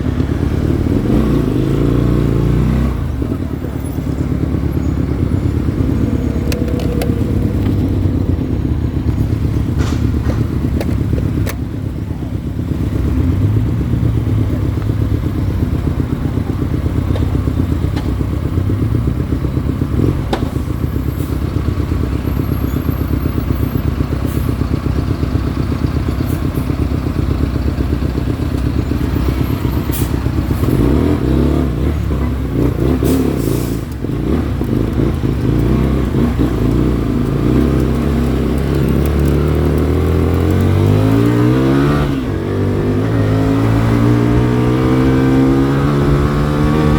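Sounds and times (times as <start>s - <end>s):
motorcycle engine running: 0.0s - 33.0s, 33.8s - 46.9s.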